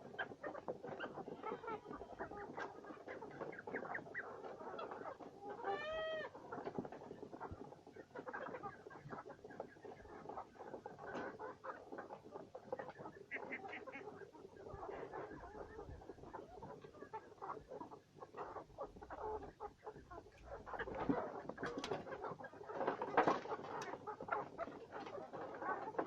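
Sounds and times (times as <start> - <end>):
chickens clucking: 0.0 - 26.0
chickens pecking and scratching: 0.0 - 26.0.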